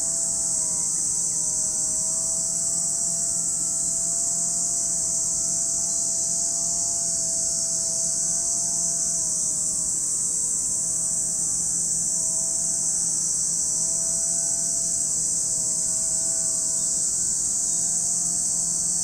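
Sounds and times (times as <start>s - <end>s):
cicadas singing: 0.0s - 19.0s.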